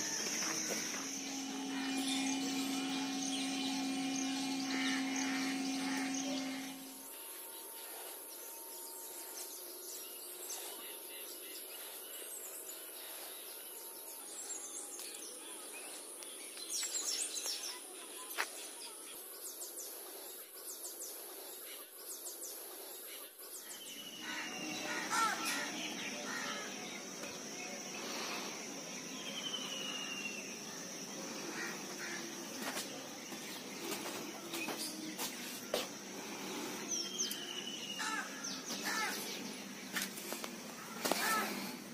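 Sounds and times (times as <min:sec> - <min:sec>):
high-pitched whine: 0:00.0 - 0:16.2, 0:23.8 - 0:41.9
birds chirping: 0:00.0 - 0:41.9.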